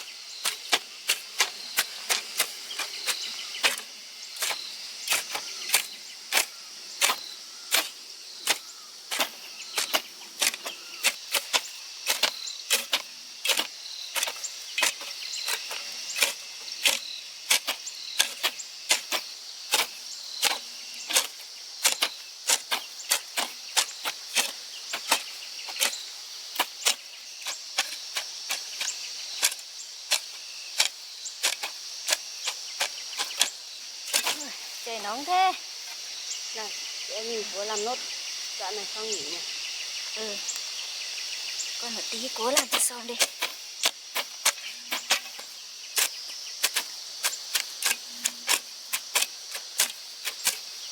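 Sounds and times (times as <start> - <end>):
high insect drone: 0.0 - 50.9.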